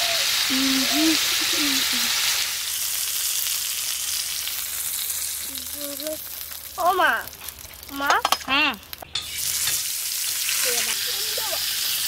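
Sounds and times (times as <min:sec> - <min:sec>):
skewers sizzling on griddle: 0:00.0 - 0:12.0.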